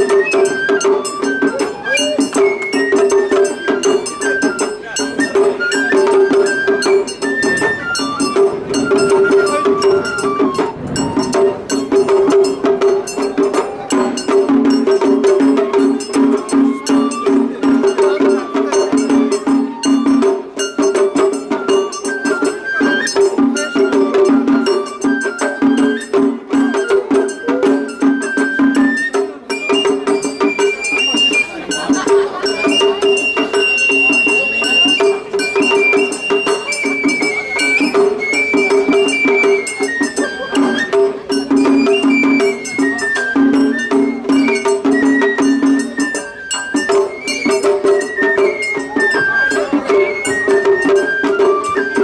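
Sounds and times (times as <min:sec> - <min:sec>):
continuous drumming: 0:00.0 - 0:52.0
high bamboo flute melody: 0:00.0 - 0:52.0.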